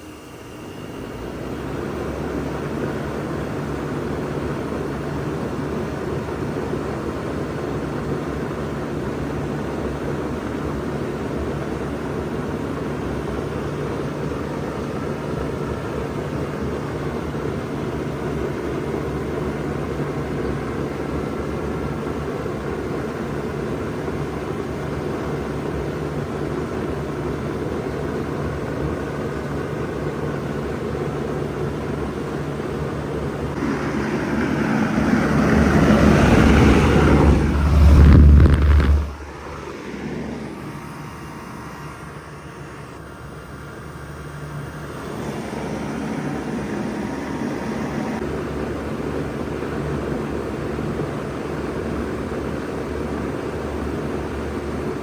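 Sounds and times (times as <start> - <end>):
fan air rushing: 0.0 - 55.0
heat pump humming: 0.0 - 55.0.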